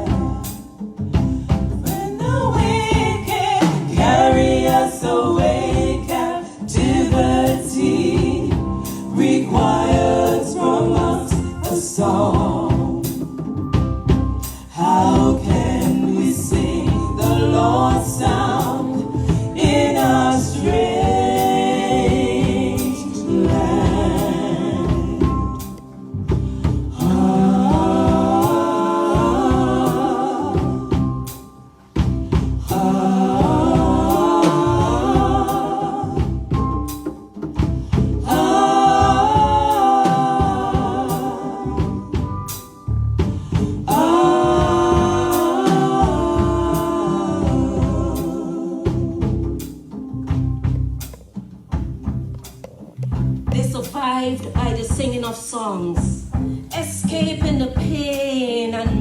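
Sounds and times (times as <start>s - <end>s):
choir singing gospel music: 0.0s - 52.3s.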